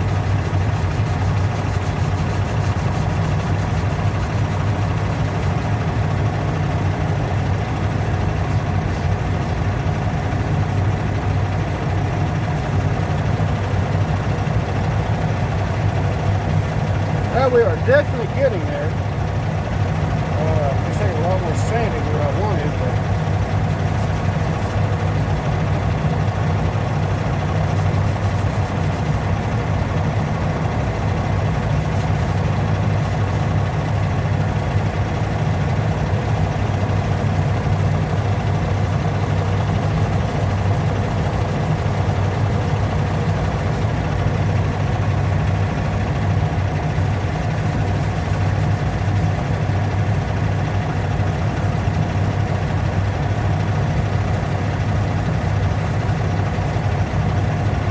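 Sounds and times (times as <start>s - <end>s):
motor humming steadily: 0.0s - 57.9s.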